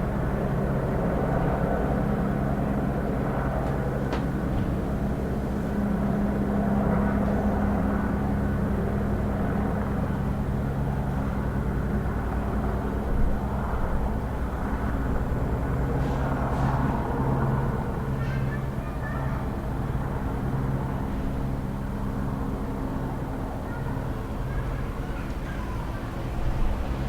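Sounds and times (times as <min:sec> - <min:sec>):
helicopter rotor beat: 0:00.0 - 0:27.0.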